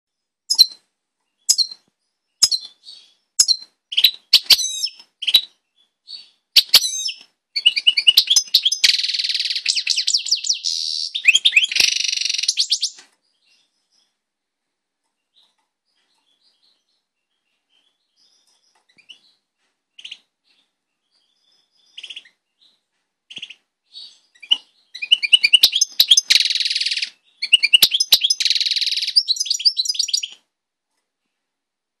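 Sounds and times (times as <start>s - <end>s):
finch chirps: 0.5s - 14.2s, 15.2s - 30.4s
finch twittering song with buzzy trills: 0.5s - 14.2s, 15.2s - 30.4s.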